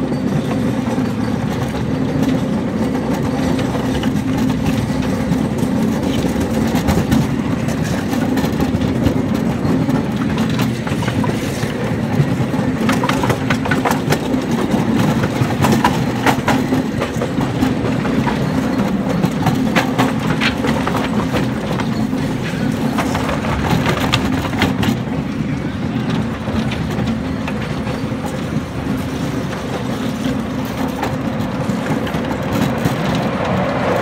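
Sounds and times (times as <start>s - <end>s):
train engine drone: 0.0s - 34.0s
wheels clicking over rail joints: 0.0s - 34.0s.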